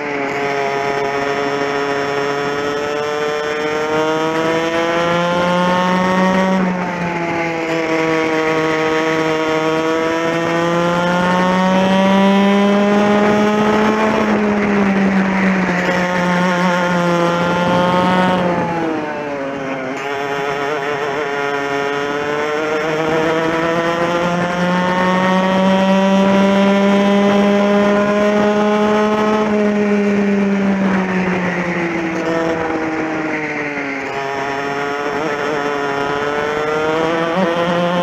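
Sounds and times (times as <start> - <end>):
kart engine revving: 0.0 - 38.0.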